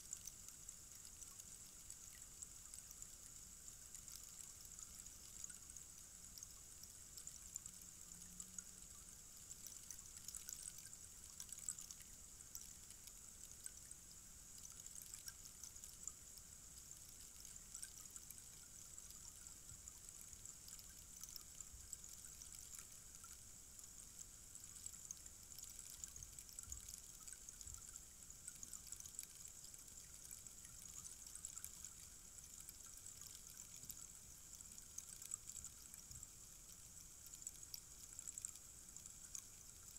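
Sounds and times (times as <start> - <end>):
rainstick trickling: 0.0 - 39.9.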